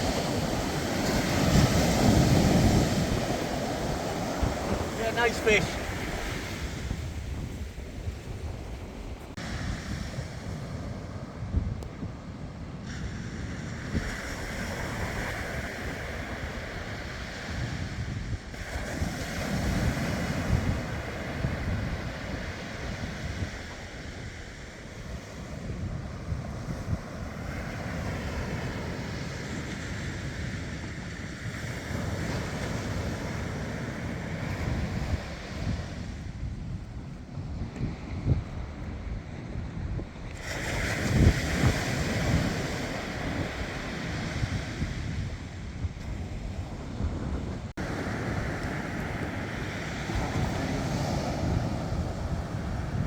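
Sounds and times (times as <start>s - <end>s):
sea waves washing onto beach: 0.0s - 53.0s
wind buffeting microphone: 0.0s - 53.0s.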